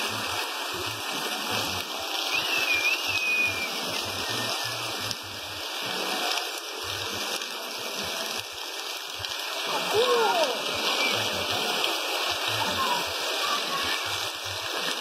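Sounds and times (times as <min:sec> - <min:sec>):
heavy rain on a street: 0:00.0 - 0:15.0
rushing runoff water: 0:00.0 - 0:15.0.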